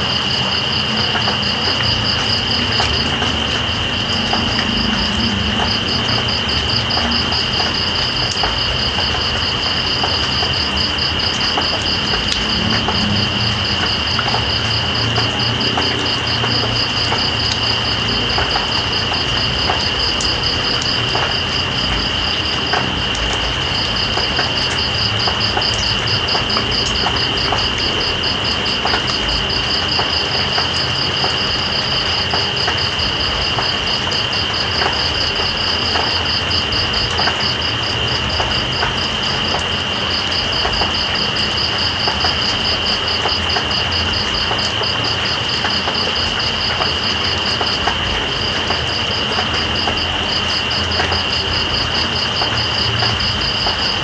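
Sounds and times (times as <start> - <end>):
drips ticking: 0.0 - 54.0
rain hissing: 0.0 - 54.0.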